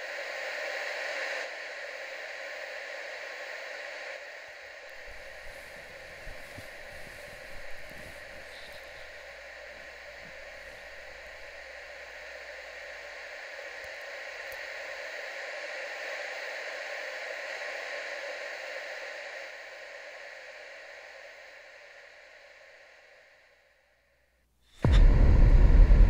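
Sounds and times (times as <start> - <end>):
television static hiss: 0.0 - 26.0.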